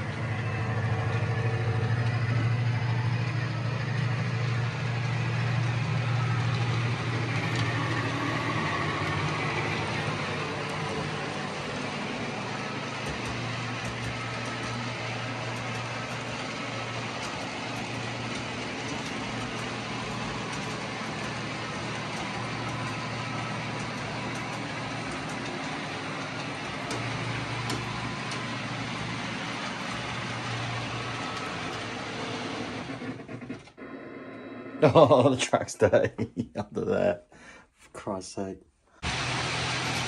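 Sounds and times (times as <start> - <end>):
model train humming: 0.0 - 35.2, 39.0 - 40.0.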